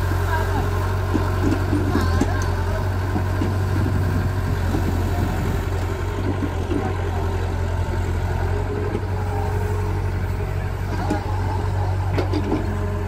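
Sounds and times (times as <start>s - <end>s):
excavator diesel engine drone: 0.0s - 13.0s.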